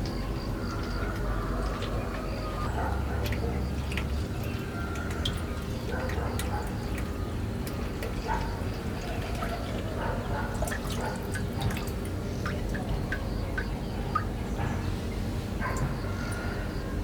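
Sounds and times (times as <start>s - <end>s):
liquid dripping into container: 0.0s - 14.5s.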